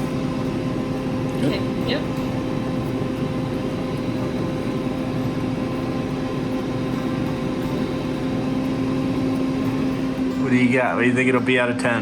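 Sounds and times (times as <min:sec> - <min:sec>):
air fryer fan humming: 0:00.0 - 0:12.0.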